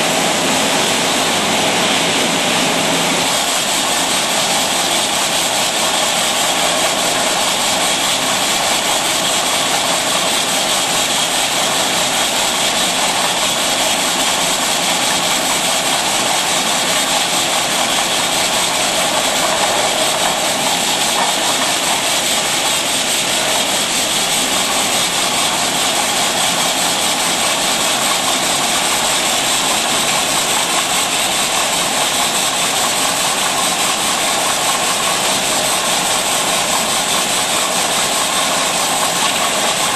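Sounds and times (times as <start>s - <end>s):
bottling machine whirring: 0.0s - 39.9s.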